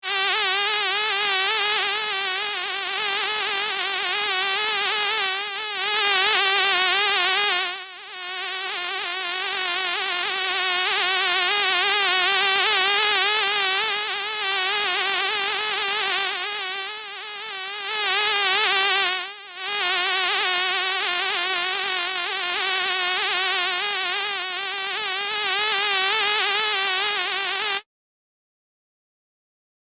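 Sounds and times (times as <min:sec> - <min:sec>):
fly buzzing: 0:00.0 - 0:27.9.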